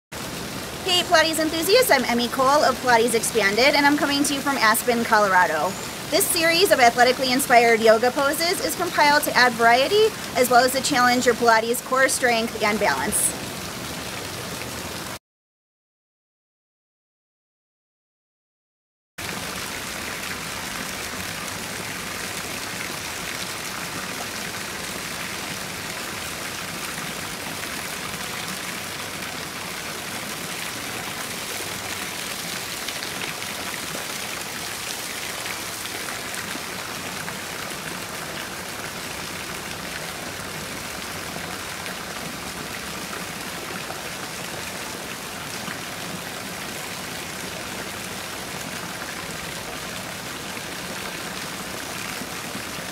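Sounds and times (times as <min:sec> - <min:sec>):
stream water rushing: 0:00.2 - 0:15.2, 0:19.2 - 0:52.9.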